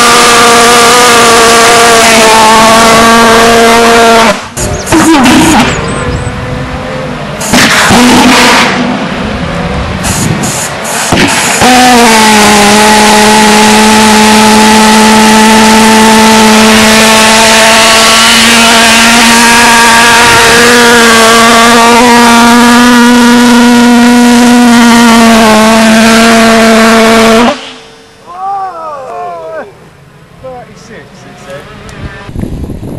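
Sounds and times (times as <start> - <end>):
pulsejet engine buzzing drone: 0.0 - 28.0, 31.2 - 32.9.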